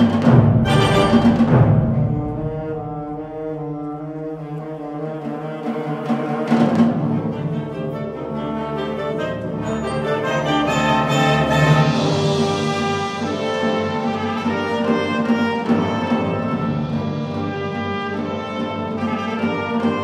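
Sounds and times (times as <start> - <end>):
wind band playing brass chords: 0.0 - 20.0.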